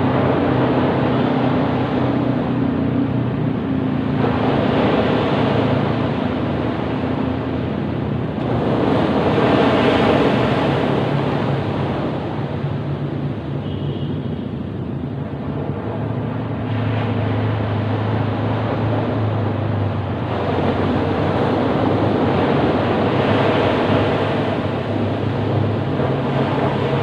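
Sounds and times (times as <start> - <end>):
waves rushing onto a beach: 0.0 - 27.0.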